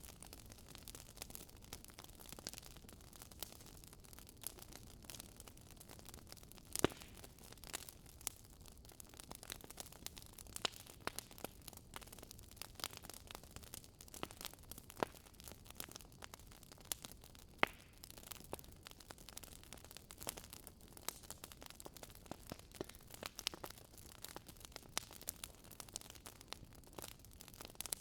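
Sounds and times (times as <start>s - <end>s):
firewood crackling and popping: 0.0s - 28.0s.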